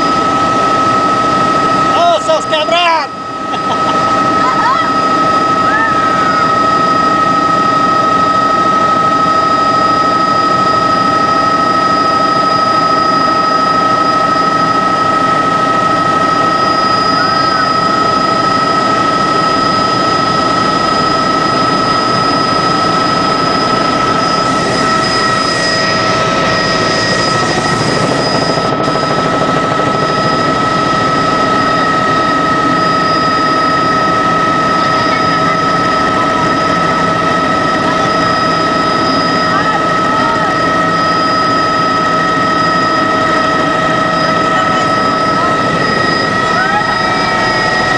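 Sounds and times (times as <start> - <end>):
helicopter turbine and rotor noise: 0.0 - 47.9
high whining tones: 0.0 - 47.9.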